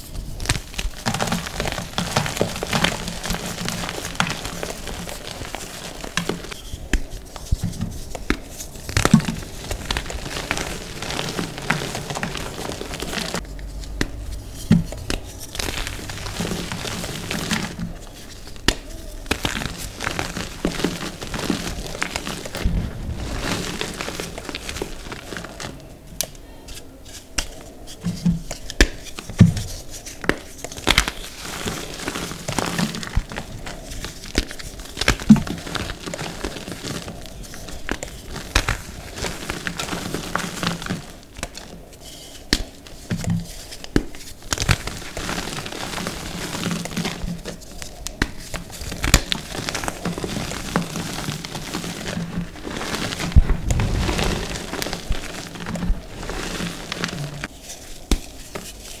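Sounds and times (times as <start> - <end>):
hands crushing chalk: 0.0 - 59.0.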